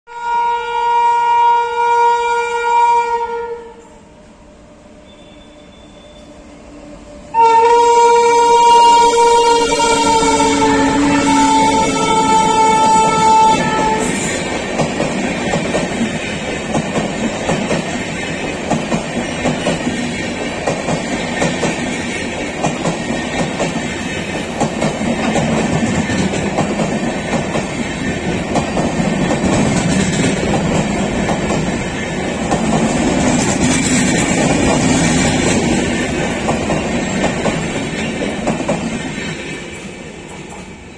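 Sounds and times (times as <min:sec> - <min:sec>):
train passing with steady rumble: 0:00.1 - 0:40.9.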